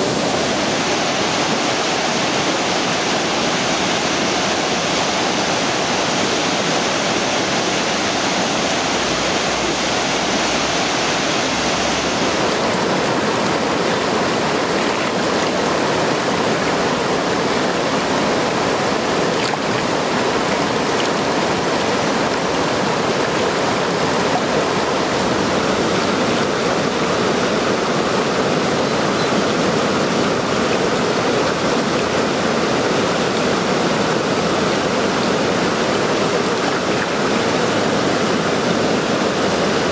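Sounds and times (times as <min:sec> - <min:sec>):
river water pouring over dam: 0:00.0 - 0:39.9.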